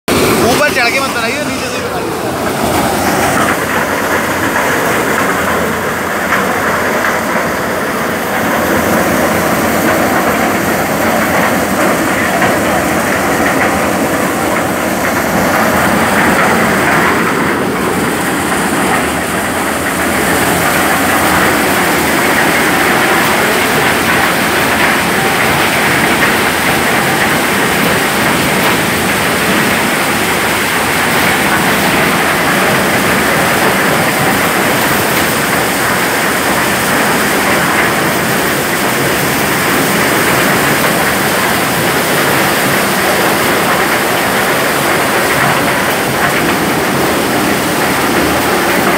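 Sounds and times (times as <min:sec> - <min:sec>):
kernels rattling through machine: 0:00.1 - 0:48.9
maize sheller mechanical din: 0:00.1 - 0:48.9.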